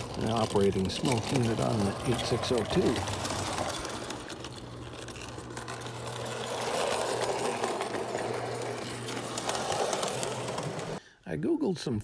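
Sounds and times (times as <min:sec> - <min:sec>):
toy locomotive motor whirring: 0:00.0 - 0:11.0.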